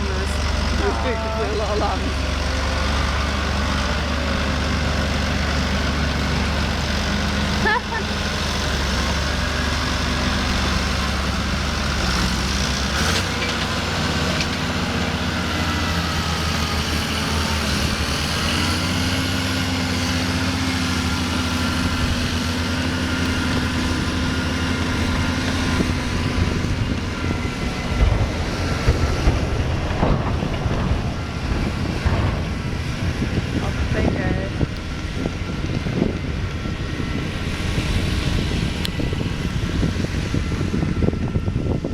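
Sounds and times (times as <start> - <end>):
tractor engine running under load: 0.0 - 41.9.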